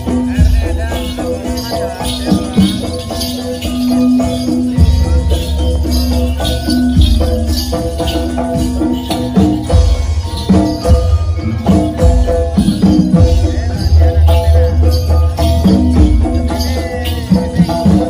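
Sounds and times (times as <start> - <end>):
drums and gongs beat: 0.0 - 18.0
jingling bells: 0.0 - 18.0.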